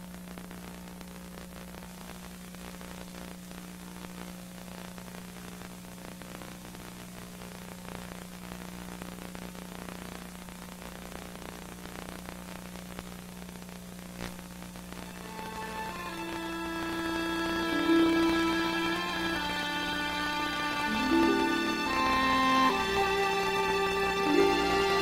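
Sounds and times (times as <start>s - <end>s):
tape hiss: 0.0s - 25.0s.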